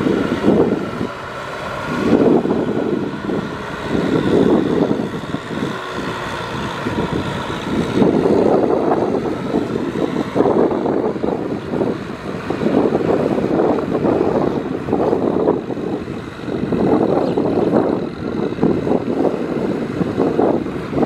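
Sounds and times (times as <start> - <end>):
rotary tiller churning water: 0.0 - 21.0
tractor diesel engine running: 0.0 - 21.0
wind gusts on microphone: 0.0 - 21.0.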